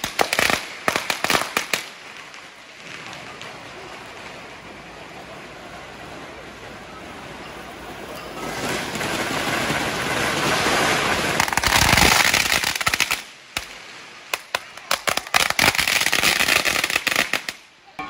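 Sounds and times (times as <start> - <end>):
fireworks spraying sparks hissing: 0.0 - 7.2, 8.0 - 17.7
firecrackers crackling: 0.0 - 18.0.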